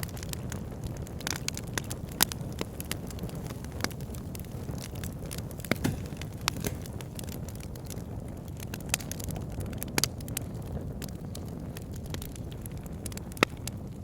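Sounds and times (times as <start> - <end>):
logs burning with crackles: 0.0 - 14.0.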